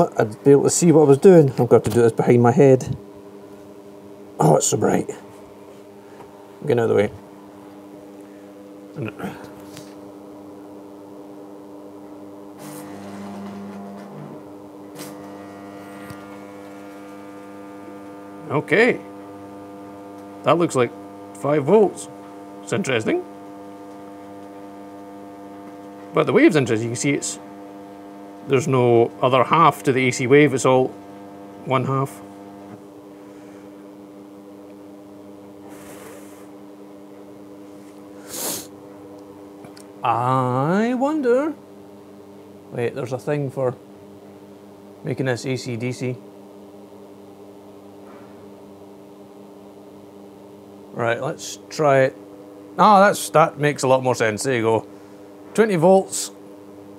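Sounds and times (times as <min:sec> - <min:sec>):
welder transformer humming: 0:00.0 - 0:56.9.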